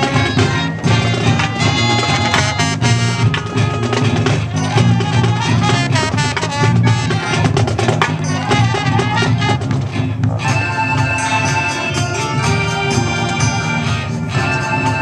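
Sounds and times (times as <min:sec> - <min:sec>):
marching drum strikes: 0:00.0 - 0:13.6
marching band playing: 0:00.0 - 0:15.0
sustained brass chords: 0:00.0 - 0:15.0.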